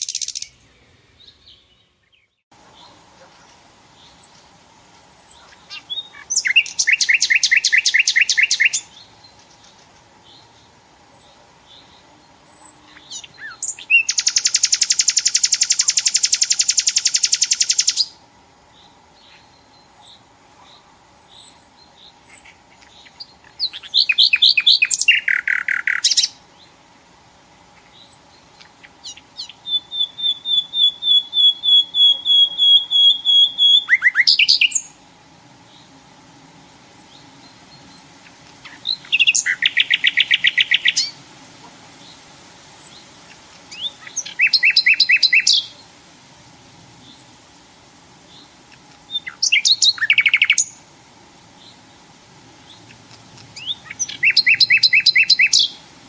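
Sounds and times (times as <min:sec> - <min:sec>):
nightingale singing: 0:00.0 - 0:27.0, 0:27.6 - 0:41.2, 0:41.9 - 0:46.0, 0:46.9 - 0:47.4, 0:48.1 - 0:56.0.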